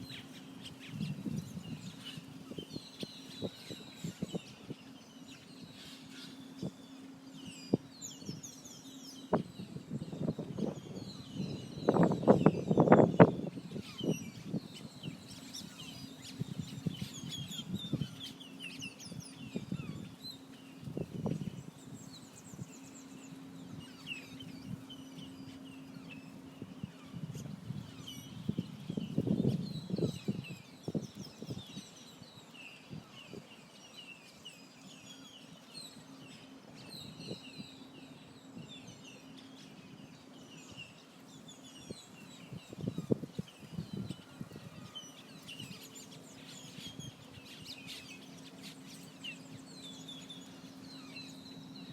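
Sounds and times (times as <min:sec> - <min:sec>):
birds chirping and calling: 0:00.0 - 0:51.9.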